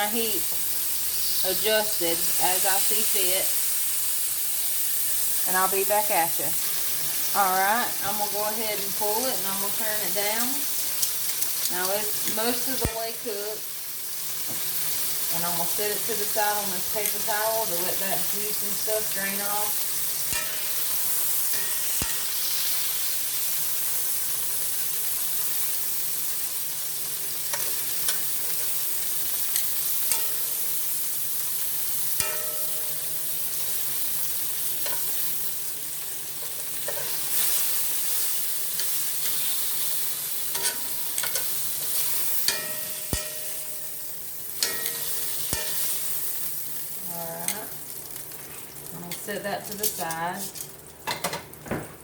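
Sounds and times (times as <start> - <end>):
chicken sizzling in frying pan: 0.0 - 51.6.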